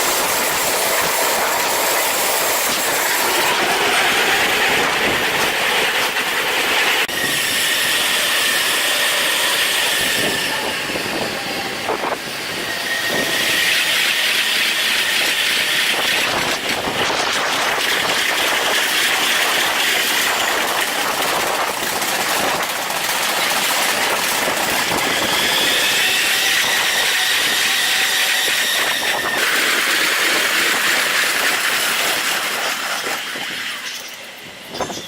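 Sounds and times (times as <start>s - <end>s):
train running on rails: 0.0s - 35.0s.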